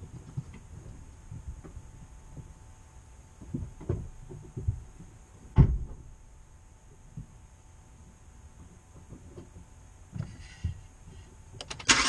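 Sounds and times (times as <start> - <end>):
muffled low thumps and knocks: 0.0 - 2.7, 3.3 - 6.2, 6.9 - 11.2
faint hum and hiss: 0.0 - 12.0.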